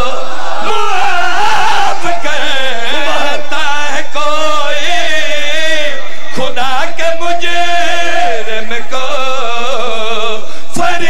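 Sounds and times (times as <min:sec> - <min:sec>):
men chanting through loudspeakers: 0:00.0 - 0:11.0.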